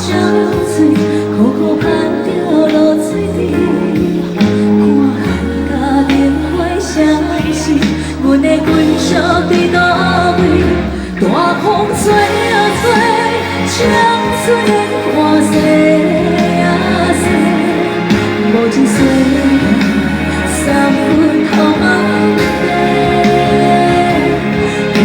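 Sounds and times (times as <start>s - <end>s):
instrumental accompaniment: 0.0s - 25.0s
woman singing pop ballad: 0.0s - 25.0s.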